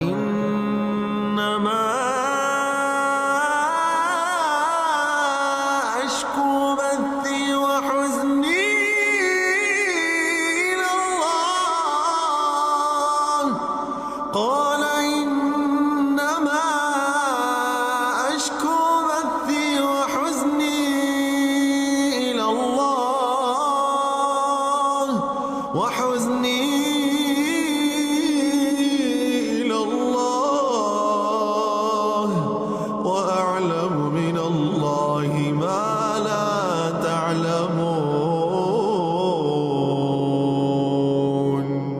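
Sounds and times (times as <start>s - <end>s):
person chanting melodically: 0.0s - 41.9s.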